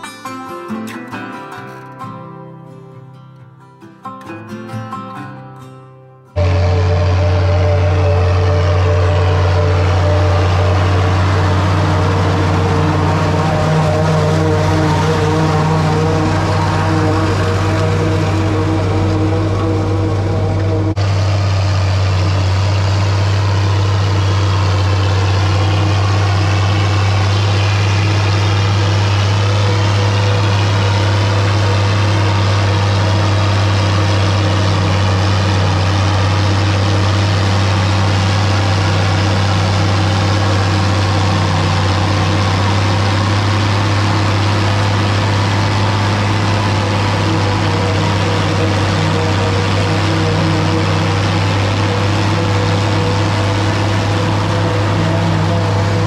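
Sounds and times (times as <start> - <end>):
forage harvester chopping corn: 6.4 - 56.0
tractor diesel engine under load: 6.4 - 56.0.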